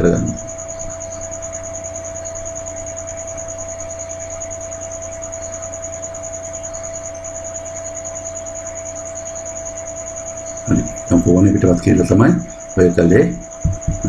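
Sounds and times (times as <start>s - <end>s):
constant mid-pitched tone: 0.0s - 14.0s
cricket trilling: 0.0s - 14.0s
low steady hum: 0.0s - 14.0s.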